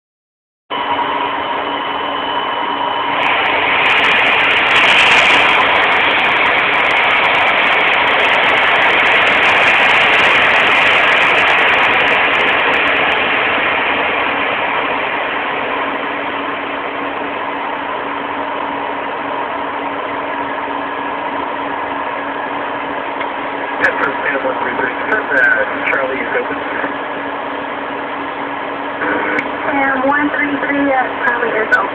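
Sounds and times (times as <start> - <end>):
jet engine whine in cabin: 0.7 - 31.9
loud rush of air: 2.6 - 29.8.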